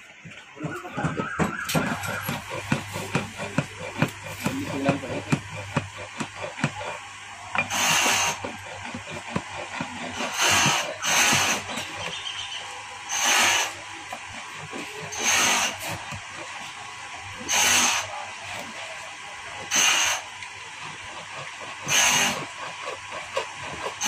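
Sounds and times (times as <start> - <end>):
file rasping on metal: 0.7 - 12.2, 13.1 - 16.6, 17.4 - 18.8, 19.6 - 24.0.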